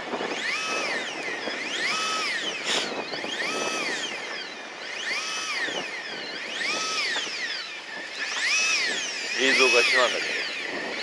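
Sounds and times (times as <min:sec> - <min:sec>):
electric reel motor whining: 0:00.0 - 0:11.0.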